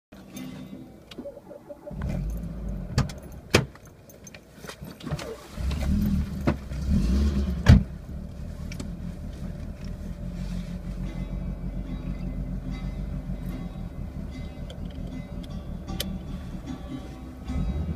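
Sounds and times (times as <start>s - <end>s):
car engine starting and revving: 0.9s - 4.0s, 5.0s - 17.9s.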